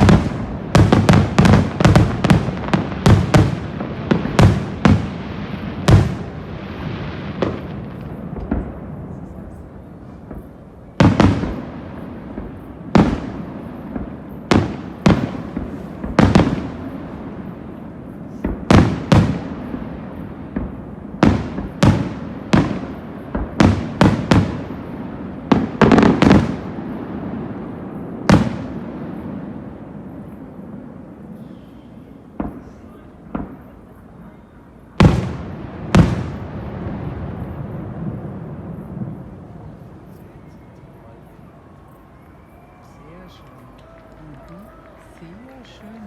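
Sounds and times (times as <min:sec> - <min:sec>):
fireworks bursting with echo: 0:00.0 - 0:46.0.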